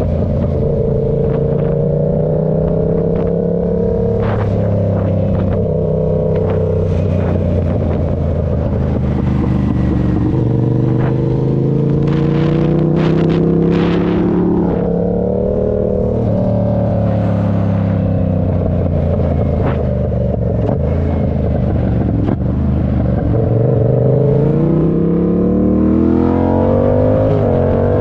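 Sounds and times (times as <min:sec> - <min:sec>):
engine accelerating: 0:00.0 - 0:28.0.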